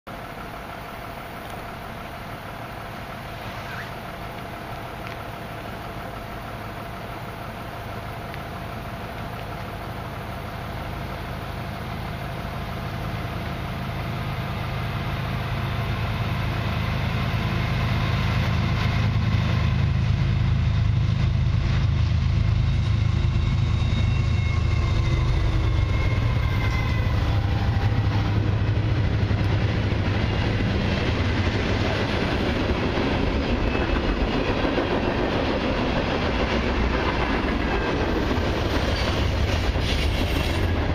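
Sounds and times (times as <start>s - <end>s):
diesel locomotives passing: 0.1s - 40.9s
train wheels rolling on rails: 0.1s - 40.9s.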